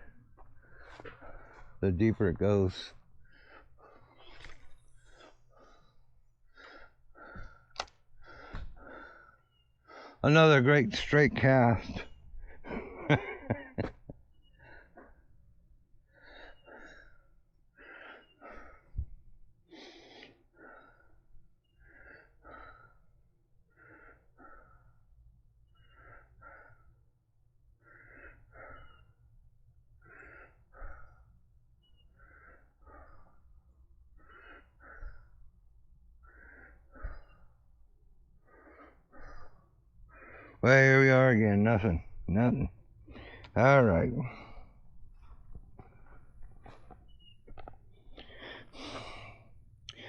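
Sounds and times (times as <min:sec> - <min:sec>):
man breathing: 0:00.0 - 0:10.2, 0:11.8 - 0:40.6, 0:41.9 - 0:50.0.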